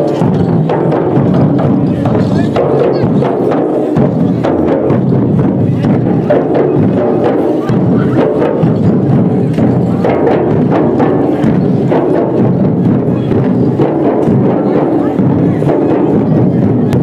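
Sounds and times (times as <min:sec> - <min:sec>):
drums beaten in fast rhythm: 0:00.0 - 0:17.0.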